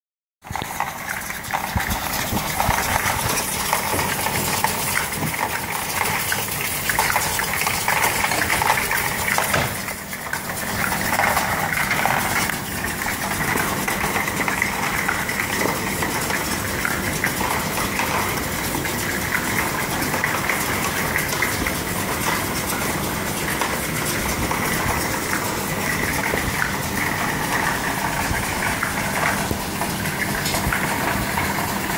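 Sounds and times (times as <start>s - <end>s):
steady motor hum: 0.4s - 31.9s.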